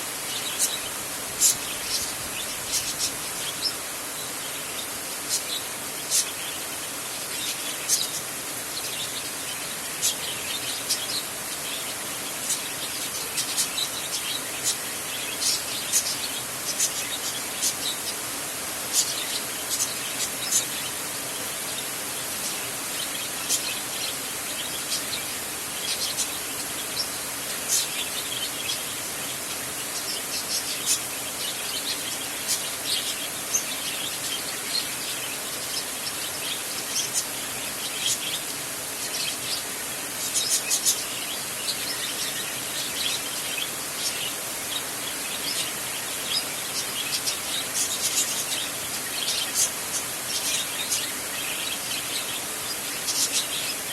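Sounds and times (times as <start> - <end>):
rain on a tin roof: 0.0 - 53.9.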